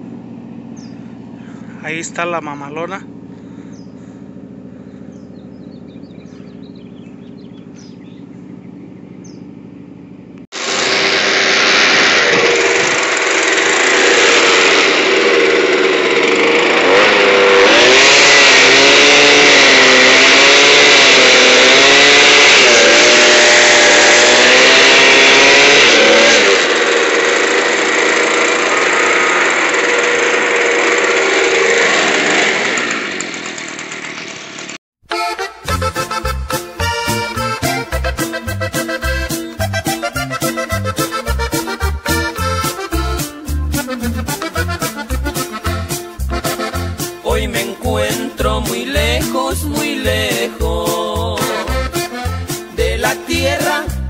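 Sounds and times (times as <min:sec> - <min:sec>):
small gasoline engine revving: 0:02.8 - 0:34.8, 0:35.8 - 0:54.0.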